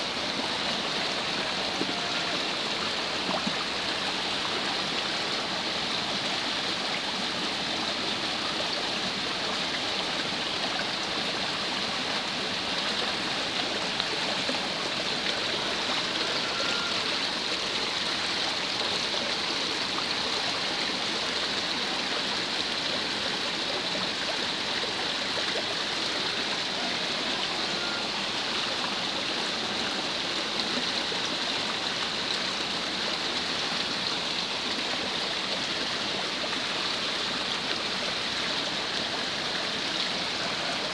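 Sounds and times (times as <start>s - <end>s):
water rushing down slope: 0.0s - 40.9s.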